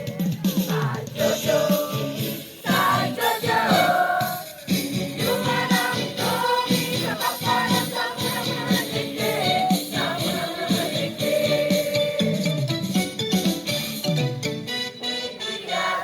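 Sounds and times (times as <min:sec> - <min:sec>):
choir singing: 0:00.0 - 0:12.6, 0:15.0 - 0:16.0.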